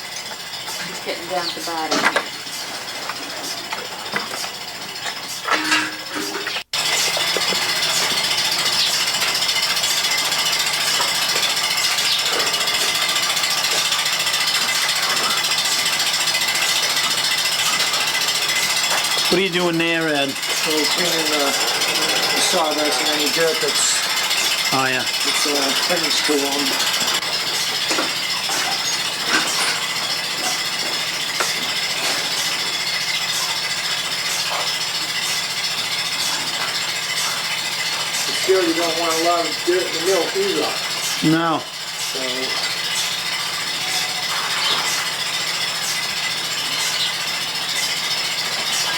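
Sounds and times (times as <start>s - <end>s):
milking machine rattling: 0.0s - 48.9s
pulsator pulses: 0.0s - 48.9s.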